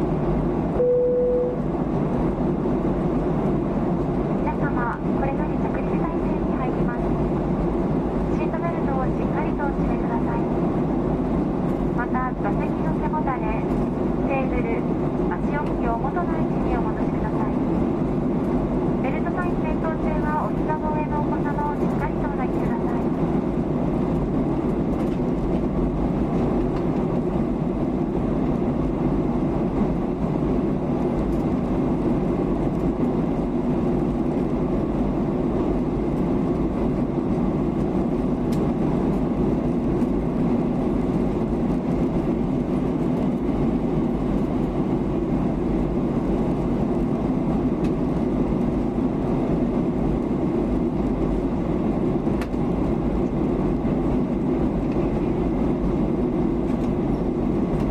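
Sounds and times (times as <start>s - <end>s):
jet engines humming: 0.0s - 57.9s.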